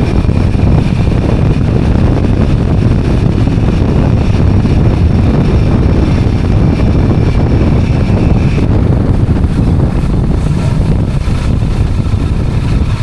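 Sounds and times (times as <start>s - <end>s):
motorbike engine running: 0.0s - 13.0s
wind rushing over microphone: 0.0s - 13.0s.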